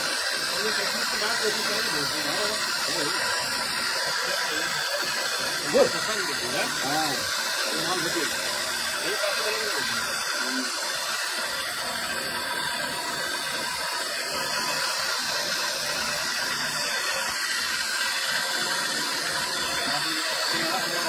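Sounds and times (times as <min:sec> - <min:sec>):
grinding bit grinding stone: 0:00.0 - 0:21.0.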